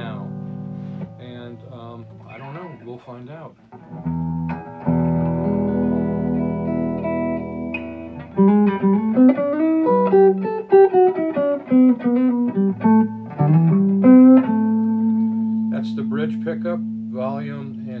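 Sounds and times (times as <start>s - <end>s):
electric guitar chords and notes: 0.0s - 2.8s, 3.7s - 18.0s.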